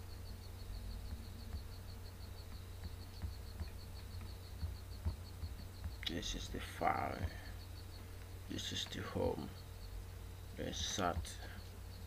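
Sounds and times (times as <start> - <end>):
faint high-pitched chirp: 0.0 - 12.0
low room hum: 0.0 - 12.0.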